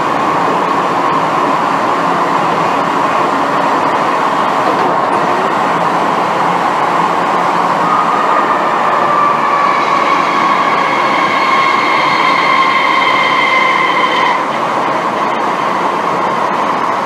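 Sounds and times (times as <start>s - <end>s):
train wheels rumbling in tunnel: 0.0s - 17.0s
high whine: 1.9s - 17.0s.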